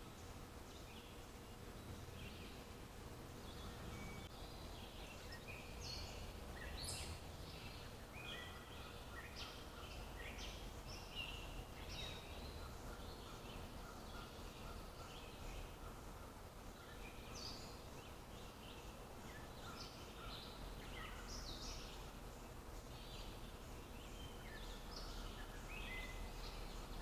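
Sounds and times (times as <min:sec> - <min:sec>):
faint background noise: 0:00.0 - 0:27.0
songbirds chirping: 0:00.0 - 0:27.0.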